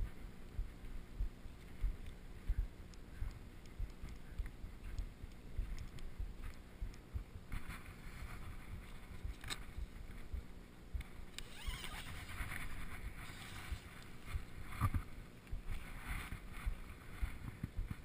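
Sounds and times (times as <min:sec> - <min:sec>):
camera jostling rumble: 0:00.0 - 0:18.0.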